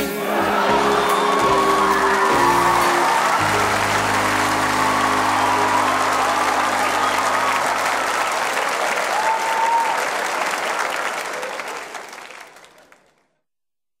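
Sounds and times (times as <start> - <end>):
audience applauding: 0.1 - 13.4.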